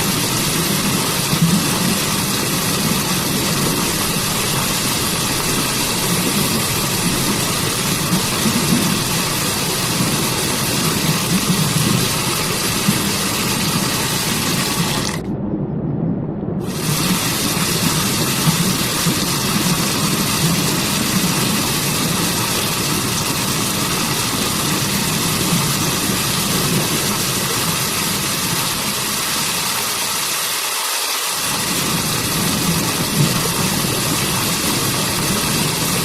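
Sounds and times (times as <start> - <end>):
waterfall roaring: 0.0 - 15.3, 16.6 - 36.0.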